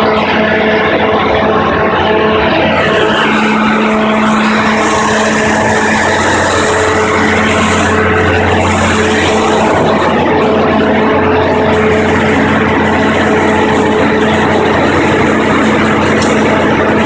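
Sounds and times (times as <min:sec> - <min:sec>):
generator engine hum: 0:00.0 - 0:17.0.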